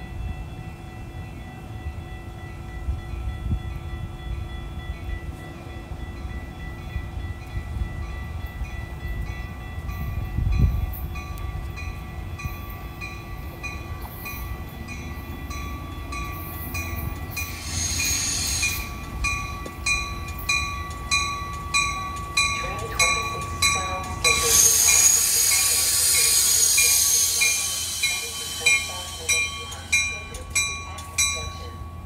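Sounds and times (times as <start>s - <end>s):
railroad crossing bells ringing: 0.0s - 32.0s
train rumble: 0.0s - 32.0s.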